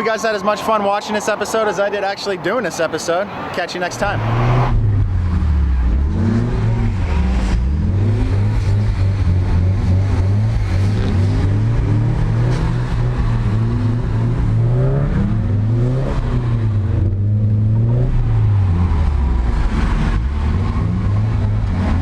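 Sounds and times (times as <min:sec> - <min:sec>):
car engine revving: 0:03.8 - 0:22.0.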